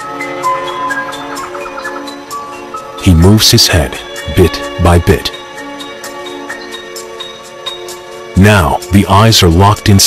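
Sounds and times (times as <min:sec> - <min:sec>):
slow documentary background music: 0:00.0 - 0:10.0.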